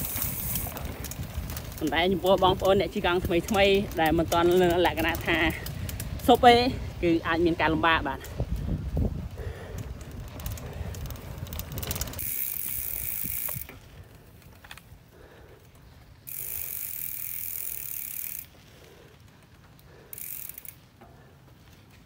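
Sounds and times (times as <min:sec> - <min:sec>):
bicycle freewheel ratchet clicking: 0:00.0 - 0:21.3.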